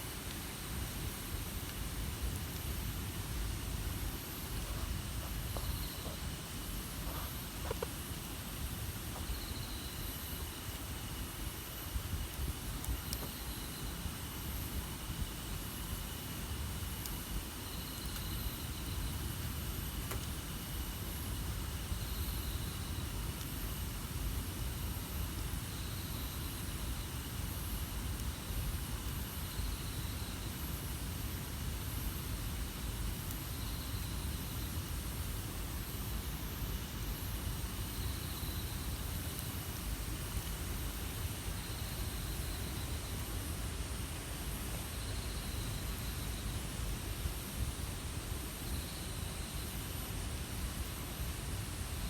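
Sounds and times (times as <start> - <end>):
outdoor background hiss: 0.0 - 52.0.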